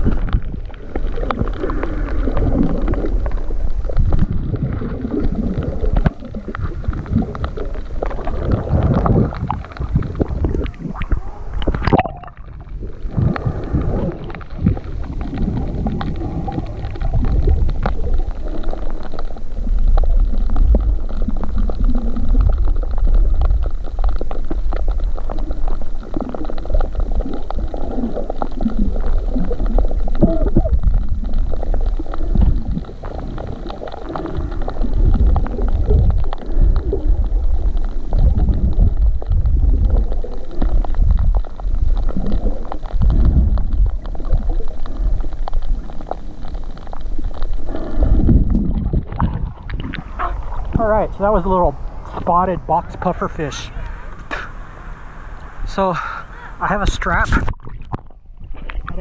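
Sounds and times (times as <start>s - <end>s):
muffled underwater rumble: 0.0s - 59.0s
water gurgling and bubbling: 0.0s - 59.0s.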